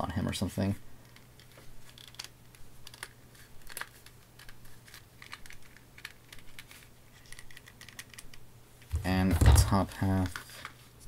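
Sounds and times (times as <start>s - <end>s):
hands handling plastic figure: 1.0s - 10.9s.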